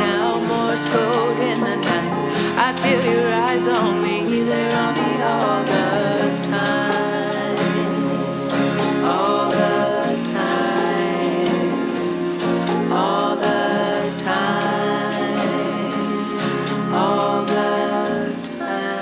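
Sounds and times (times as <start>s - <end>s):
banjo: 0.0s - 19.0s
bending sliding melody line: 0.0s - 19.0s
cello: 0.0s - 19.0s
strummed guitar: 0.0s - 19.0s.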